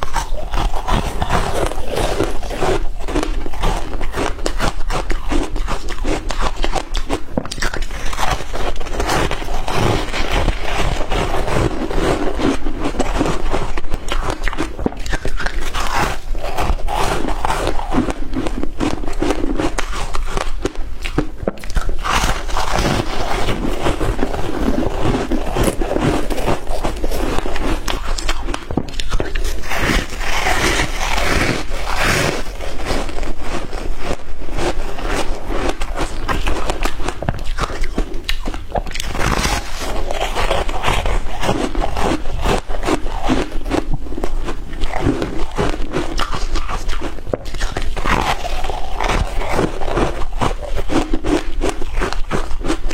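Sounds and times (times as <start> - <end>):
shaved ice being chewed: 0.0 - 52.9.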